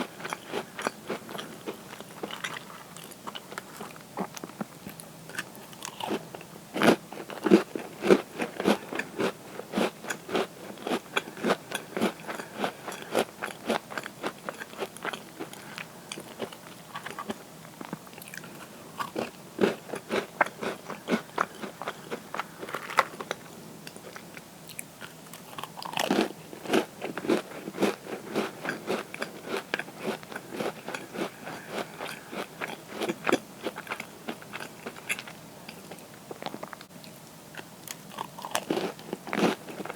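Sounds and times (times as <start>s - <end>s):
person chewing crisp cookies: 0.0s - 39.9s.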